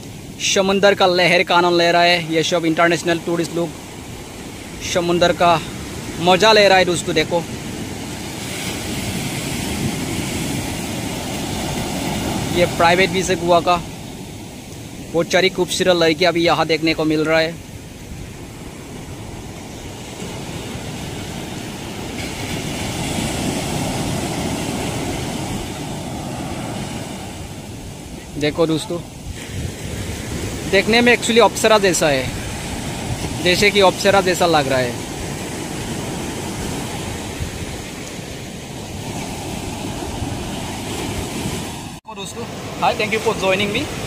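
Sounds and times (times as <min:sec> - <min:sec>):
waves breaking on beach: 0:00.0 - 0:44.0
wind buffeting microphone: 0:03.8 - 0:15.6, 0:16.8 - 0:42.0.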